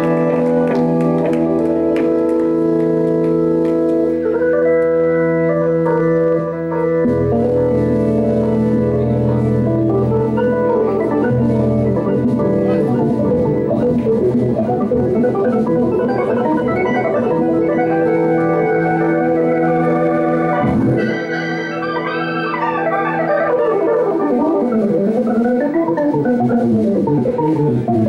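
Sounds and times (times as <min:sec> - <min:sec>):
live band with organ chords: 0:00.0 - 0:28.0
pitch-sliding notes: 0:00.0 - 0:28.0.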